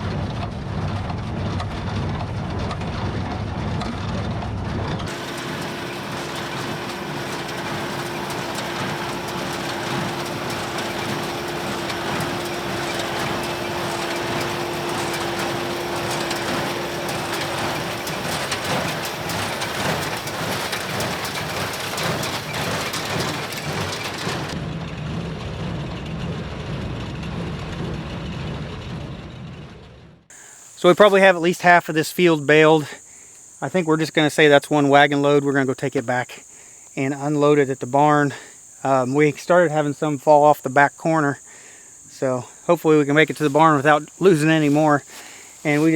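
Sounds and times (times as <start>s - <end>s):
tractor and baler clattering: 0.0s - 29.9s, 30.8s - 31.8s, 37.0s - 41.4s, 42.2s - 45.9s.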